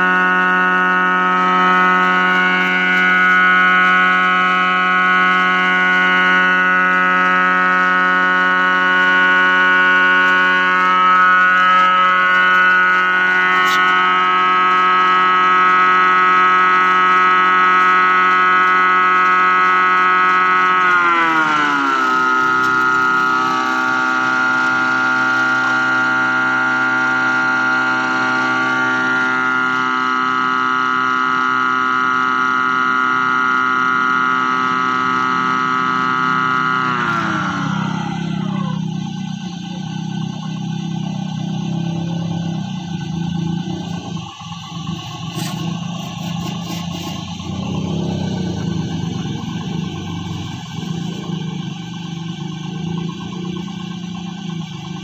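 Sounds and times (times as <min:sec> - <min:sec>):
blower whining: 0:00.0 - 0:55.0.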